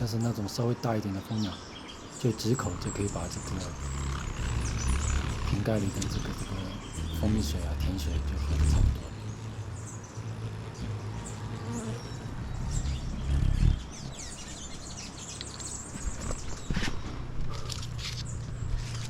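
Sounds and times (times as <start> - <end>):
hummingbird wings humming: 0.0 - 19.0.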